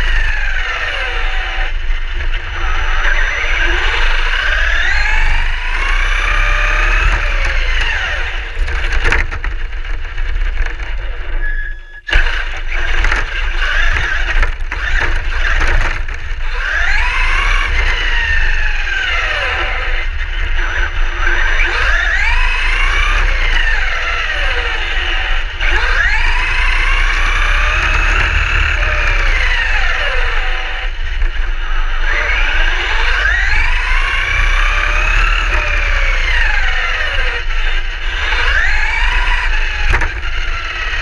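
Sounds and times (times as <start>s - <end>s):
electric motor whining: 0.0s - 41.0s
rumbling tyre and wind noise: 0.0s - 41.0s.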